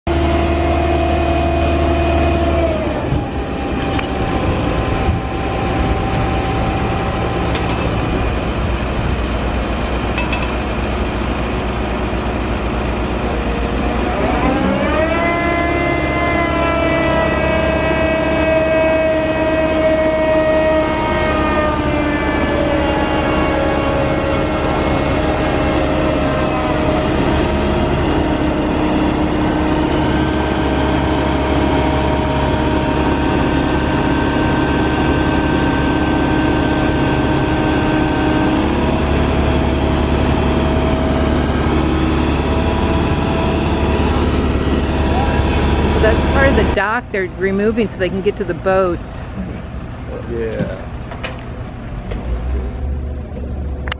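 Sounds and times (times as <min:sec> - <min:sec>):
heavy machinery diesel engine: 0:00.1 - 0:53.9.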